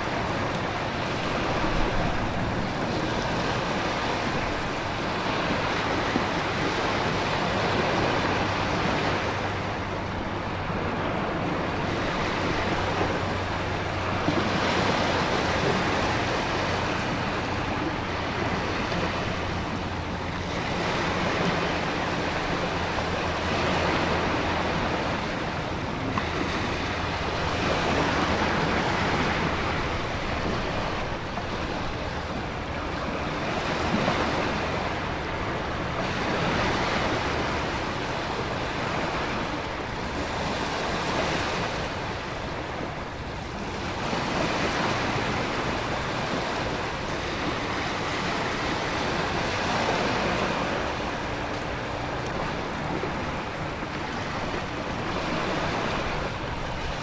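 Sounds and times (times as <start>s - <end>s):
surf: 0.0s - 57.0s
wind: 0.0s - 57.0s.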